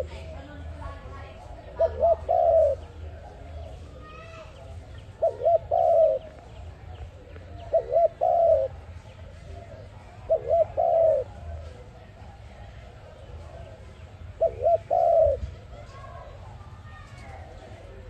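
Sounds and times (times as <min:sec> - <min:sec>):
dove cooing: 0:00.0 - 0:16.2
faint birds chirping: 0:00.0 - 0:18.0.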